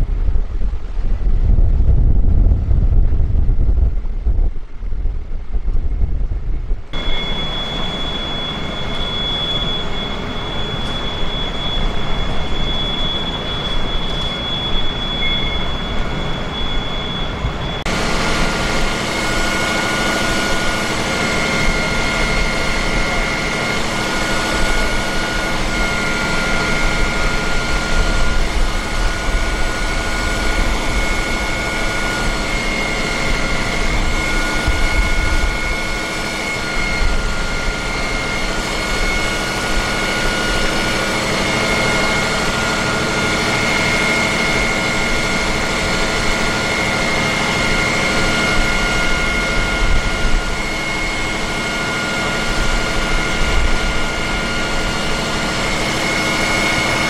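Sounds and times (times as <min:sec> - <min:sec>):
mechanical drone with high whine: 0:00.0 - 0:57.0
fire engine idling with whining tones: 0:06.7 - 0:57.0.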